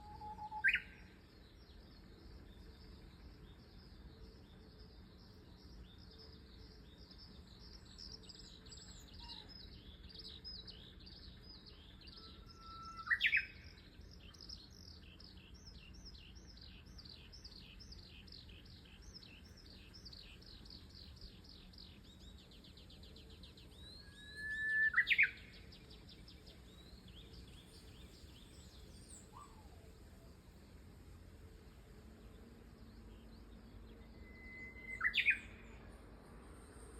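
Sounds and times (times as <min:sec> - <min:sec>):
bush warbler whistled song: 0:00.0 - 0:30.7, 0:31.8 - 0:36.9.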